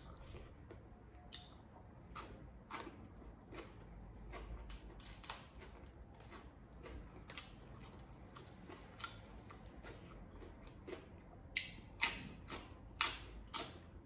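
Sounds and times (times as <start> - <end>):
person chewing vegetables: 0.0 - 14.0.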